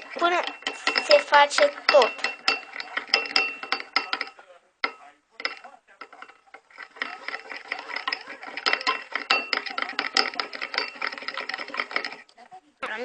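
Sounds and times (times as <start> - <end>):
utensil scraping and clinking in bowl: 0.0 - 13.0.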